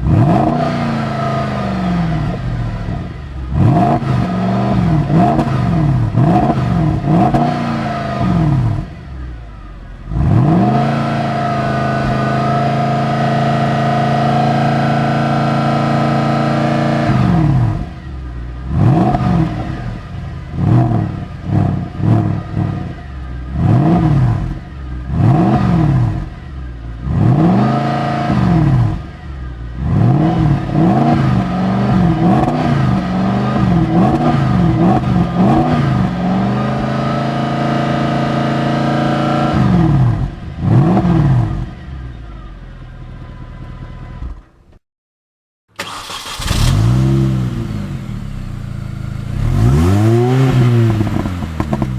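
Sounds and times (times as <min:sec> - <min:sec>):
car engine revving: 0:00.0 - 0:42.5, 0:45.8 - 0:51.9
other car engine: 0:00.0 - 0:44.8, 0:45.8 - 0:51.9.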